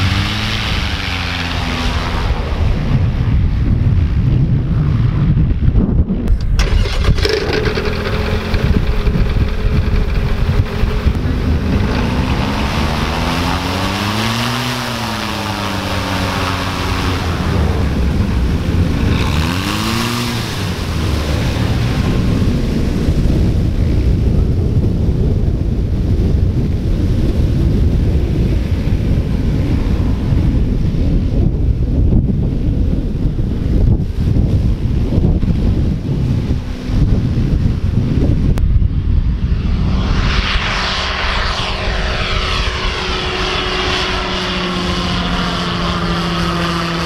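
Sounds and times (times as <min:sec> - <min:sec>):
propeller plane engine drone: 0:00.0 - 0:47.0
wind buffeting microphone: 0:00.0 - 0:47.0.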